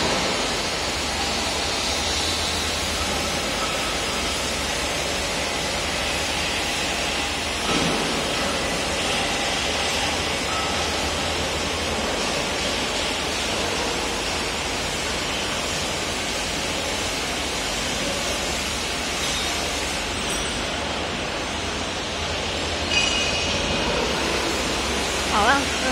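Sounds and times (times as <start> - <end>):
factory machinery noise: 0.0 - 25.9.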